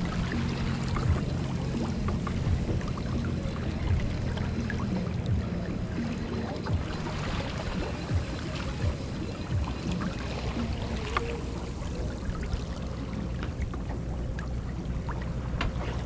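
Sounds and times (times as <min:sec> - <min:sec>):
steady low rumble: 0:00.0 - 0:16.0
water rushing along boat hull: 0:00.0 - 0:16.0
water slapping against hull: 0:00.0 - 0:16.0.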